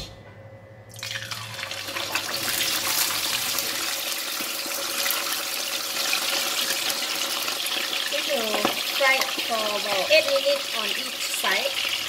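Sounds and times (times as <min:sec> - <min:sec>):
fish sizzling in hot oil: 0:01.2 - 0:12.0.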